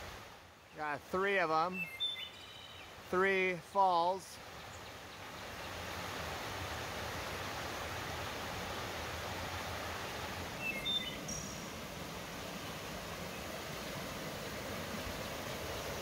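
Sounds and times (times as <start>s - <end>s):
creek rushing over small waterfalls: 0.0s - 16.0s.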